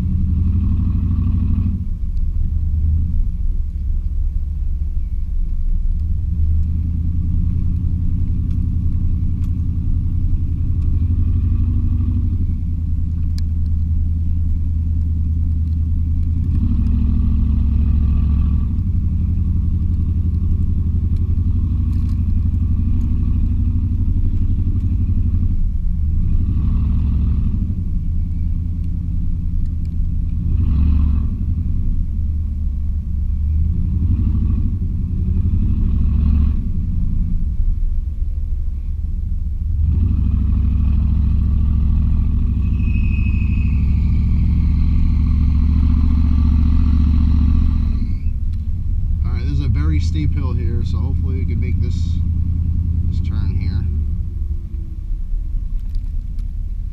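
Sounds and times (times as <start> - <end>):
pickup truck engine droning: 0.0 - 56.9.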